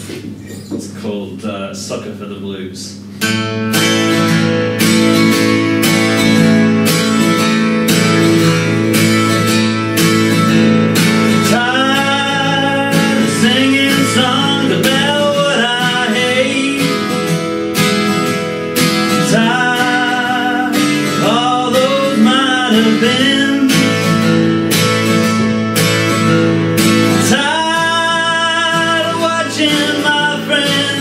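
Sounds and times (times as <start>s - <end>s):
acoustic guitar strumming: 2.9s - 31.0s.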